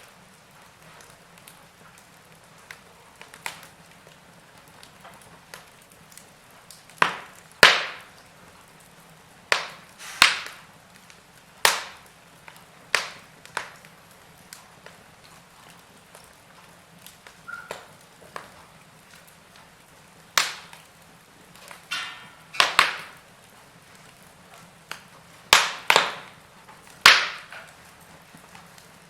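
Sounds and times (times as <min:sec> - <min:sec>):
burning wood popping: 0:00.0 - 0:29.0
faint hiss of flames: 0:00.0 - 0:29.0.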